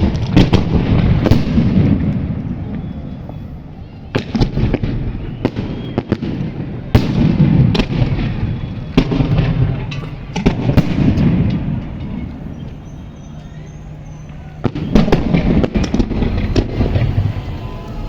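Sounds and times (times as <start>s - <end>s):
continuous low rumble: 0.0s - 18.0s
fireworks bangs and crackles: 0.0s - 18.0s.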